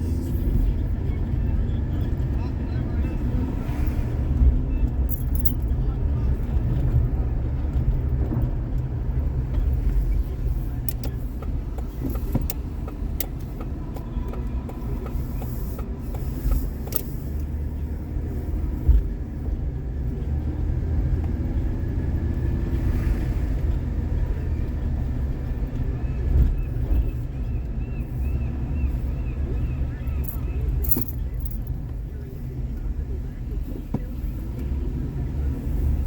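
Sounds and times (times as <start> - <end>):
engine and tyre rumble: 0.0 - 36.0.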